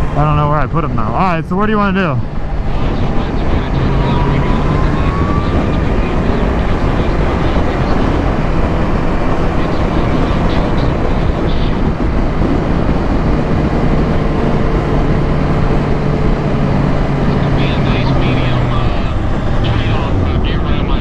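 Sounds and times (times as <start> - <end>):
motorcycle engine running: 0.0 - 21.0
wind rush over microphone: 0.0 - 21.0.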